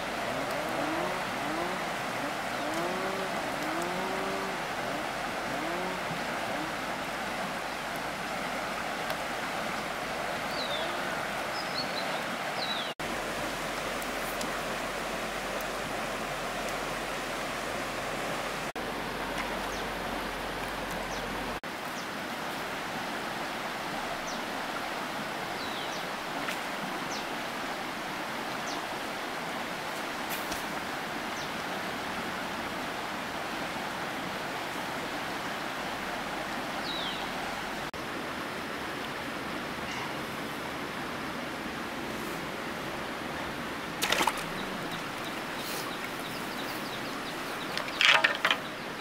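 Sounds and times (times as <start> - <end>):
rushing water: 0.0 - 49.0.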